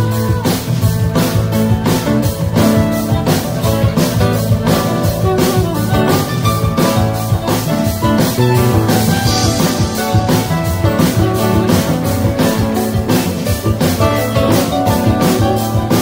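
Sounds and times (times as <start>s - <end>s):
drum kit steady beat: 0.0s - 16.0s
plucked string instruments: 0.0s - 16.0s.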